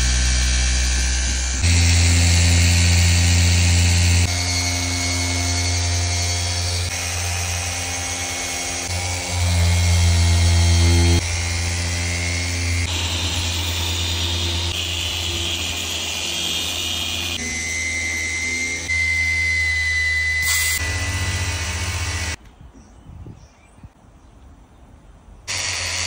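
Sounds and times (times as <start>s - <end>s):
machine polisher motor whine: 0.0s - 22.4s, 25.5s - 26.0s.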